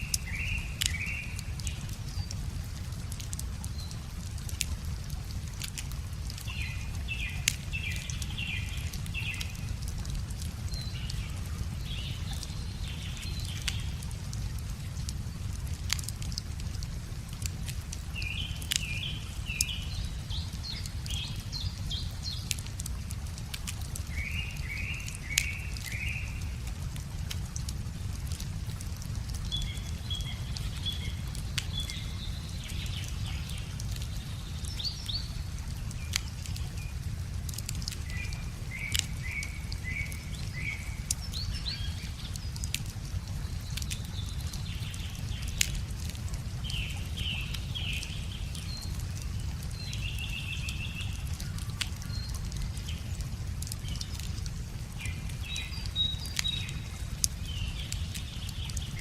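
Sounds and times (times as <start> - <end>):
small birds chirping: 0.0 - 27.8, 28.5 - 59.0
wood fire crackling and popping: 0.1 - 19.8, 20.5 - 24.6, 25.3 - 34.9, 35.5 - 41.3, 42.3 - 46.8, 47.5 - 55.5, 56.2 - 59.0.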